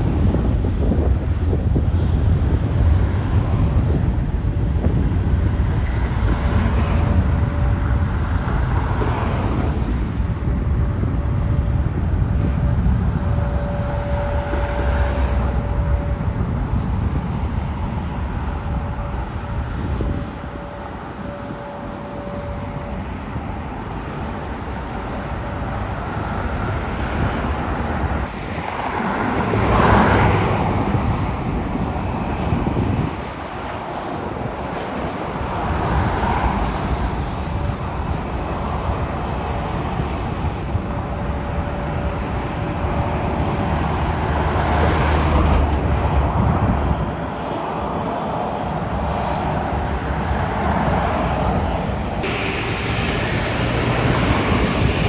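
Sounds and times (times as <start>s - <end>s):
jet airliner engines rushing: 0.0s - 55.0s.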